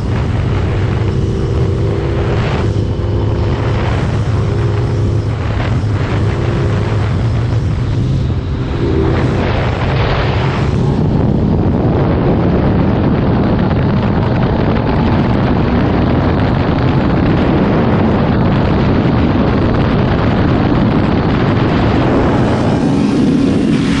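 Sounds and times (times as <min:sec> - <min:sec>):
motorcycle engine drone: 0:00.0 - 0:24.0
wind rush on microphone: 0:00.0 - 0:24.0.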